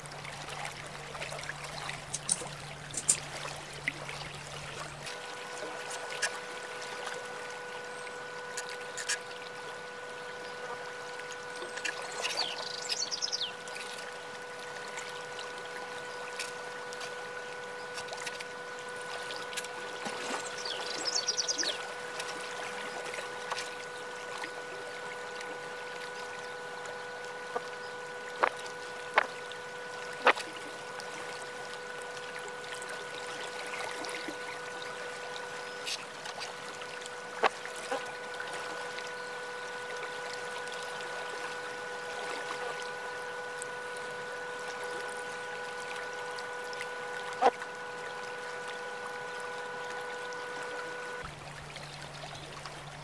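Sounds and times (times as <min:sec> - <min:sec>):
steady hum with hiss: 0:00.0 - 0:53.0.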